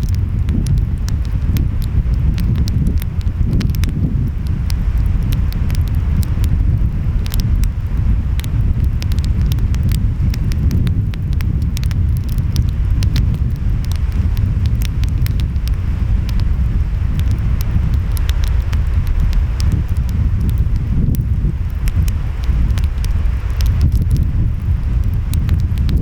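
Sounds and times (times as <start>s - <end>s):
wind: 0.0s - 26.0s
wood fire crackling and popping: 0.0s - 26.0s.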